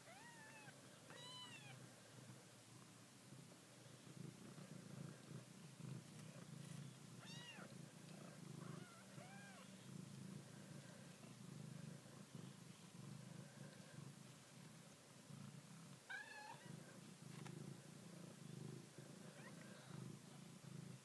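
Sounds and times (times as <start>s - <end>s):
cat purring: 0.3s - 21.0s.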